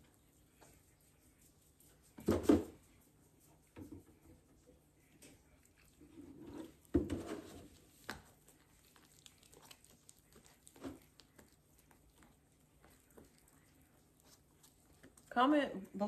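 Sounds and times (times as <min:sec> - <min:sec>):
hand squishing dough in a bowl: 0:00.0 - 0:16.0
small clicks and rustles: 0:01.5 - 0:15.4.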